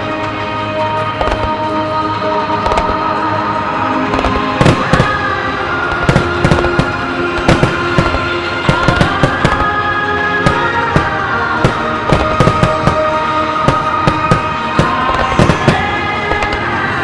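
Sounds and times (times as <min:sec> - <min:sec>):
music playing: 0:00.0 - 0:17.0
firework shells bursting: 0:01.1 - 0:01.8, 0:02.7 - 0:03.2, 0:04.0 - 0:17.0.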